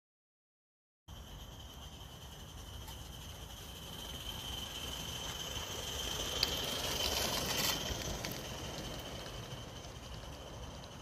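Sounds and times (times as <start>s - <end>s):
steam hiss: 1.1s - 11.0s
wheels clicking on track: 1.1s - 11.0s.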